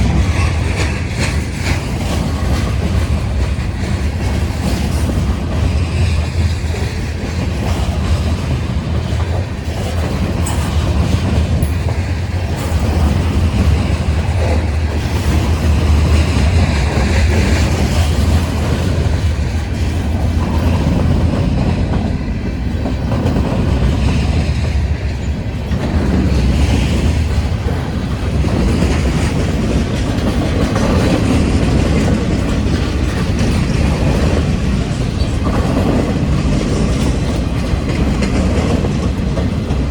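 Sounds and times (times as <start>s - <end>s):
low train rumble: 0.0s - 39.9s
train wheels clacking on rail joints: 0.0s - 39.9s.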